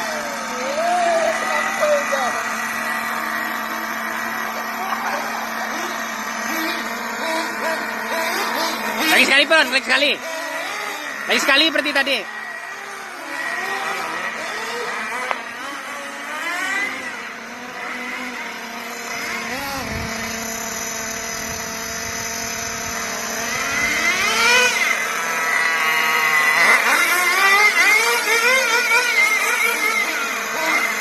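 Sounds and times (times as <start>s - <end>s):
rc car engine revving: 0.0s - 31.0s.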